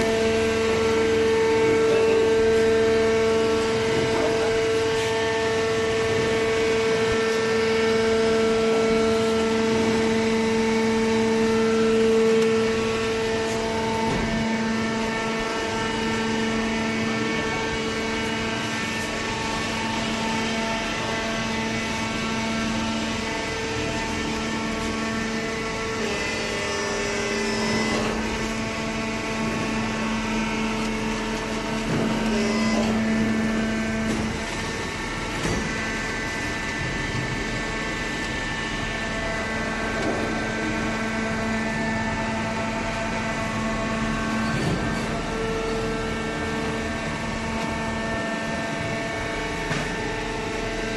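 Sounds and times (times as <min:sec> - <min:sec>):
hydraulic baler motor humming: 0:00.0 - 0:50.9.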